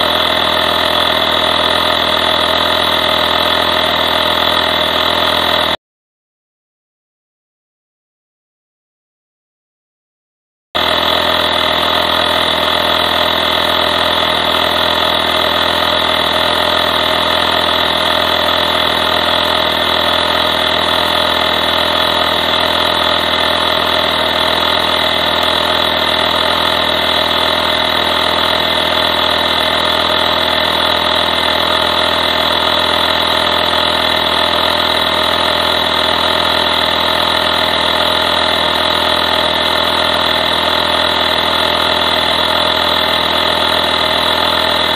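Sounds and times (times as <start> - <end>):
air compressor buzzing: 0.0 - 5.8, 10.8 - 44.9.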